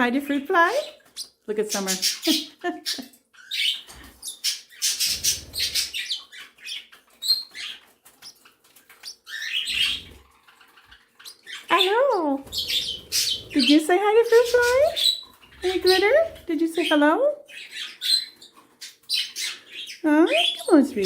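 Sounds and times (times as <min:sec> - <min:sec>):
pet birds chirping and squawking: 0:00.0 - 0:21.0.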